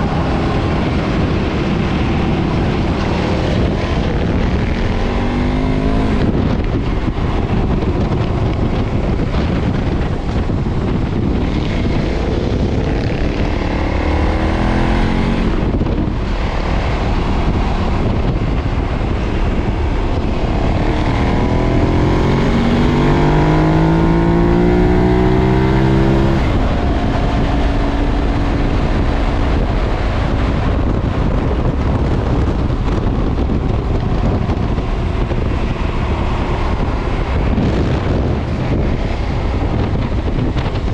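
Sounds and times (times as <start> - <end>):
motorcycle engine running: 0.0 - 40.9
wind noise on microphone: 0.0 - 40.9.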